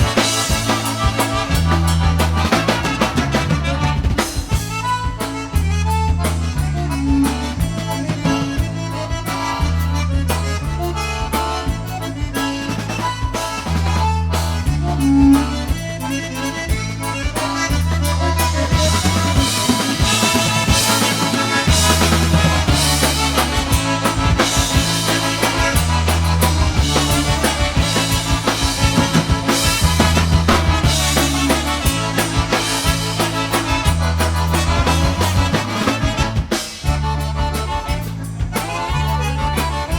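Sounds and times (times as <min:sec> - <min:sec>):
accordion lead: 0:00.0 - 0:39.9
polka band playing: 0:00.0 - 0:39.9.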